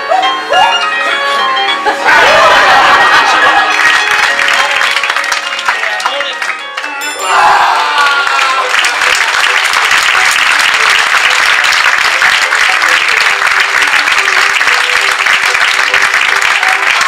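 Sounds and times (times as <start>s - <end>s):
audience applauding: 2.1s - 17.0s.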